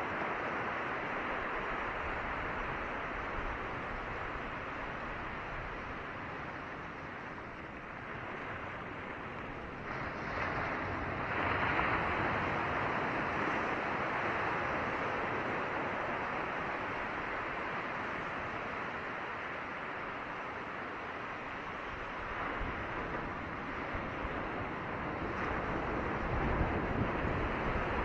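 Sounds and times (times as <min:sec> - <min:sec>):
surf washing over rocky shore: 0:00.0 - 0:28.0.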